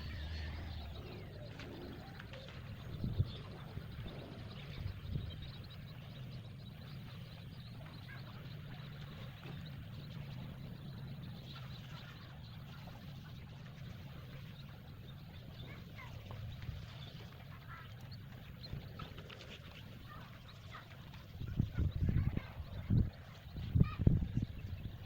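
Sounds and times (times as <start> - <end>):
faint bird chirps: 0.0 - 25.0
steady low hum: 0.0 - 25.0.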